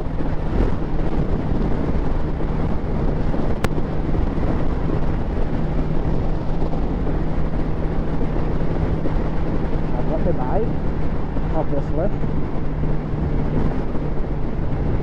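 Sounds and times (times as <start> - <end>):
motorcycle engine humming: 0.0 - 15.0
wind on microphone: 0.0 - 15.0.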